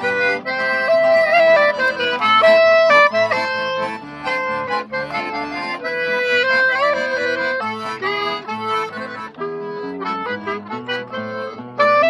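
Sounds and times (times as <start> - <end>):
button accordion: 0.0 - 12.0
clarinet: 0.0 - 12.0
plucked acoustic guitar: 0.0 - 12.0.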